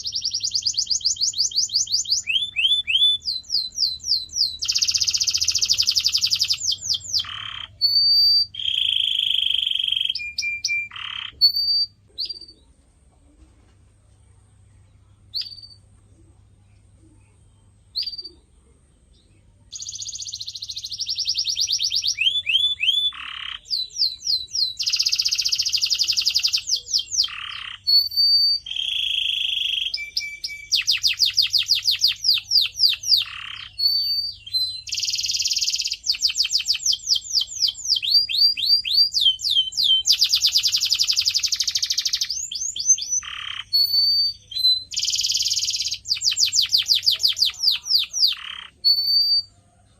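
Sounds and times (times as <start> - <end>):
canary singing: 0.0 - 12.8, 15.1 - 49.9.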